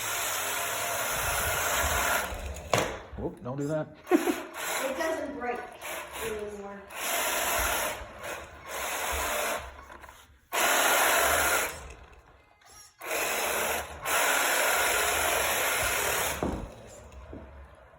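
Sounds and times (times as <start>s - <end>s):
toy truck motor whirring: 0.0s - 3.1s, 4.0s - 17.9s.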